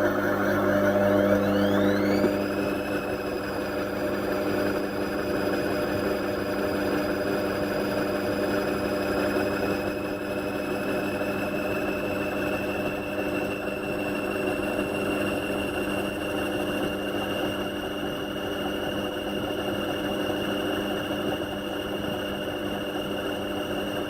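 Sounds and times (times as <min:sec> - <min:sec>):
washing machine motor whine: 0:00.0 - 0:24.0.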